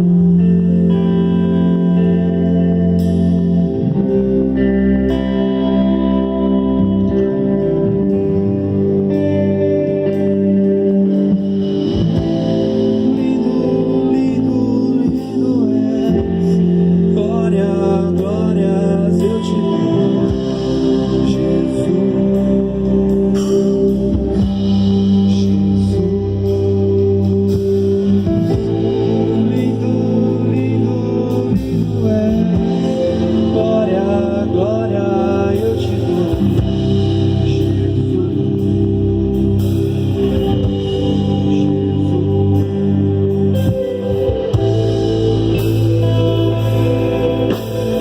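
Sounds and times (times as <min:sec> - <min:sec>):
bass: 0:00.0 - 0:48.0
electric guitar: 0:00.0 - 0:48.0
gospel band playing: 0:00.0 - 0:48.0
keyboard chords: 0:00.0 - 0:48.0
person singing: 0:00.0 - 0:48.0.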